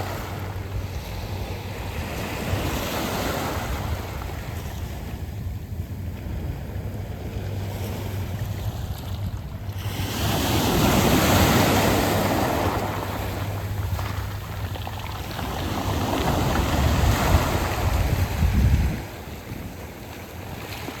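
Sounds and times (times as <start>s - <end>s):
waves washing over pebbles: 0.0s - 21.0s.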